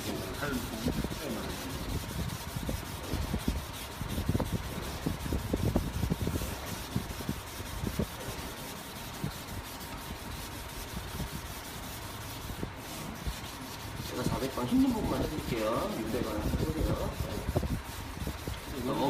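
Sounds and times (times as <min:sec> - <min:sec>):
sandpaper scrubbing strokes: 0:00.0 - 0:19.0.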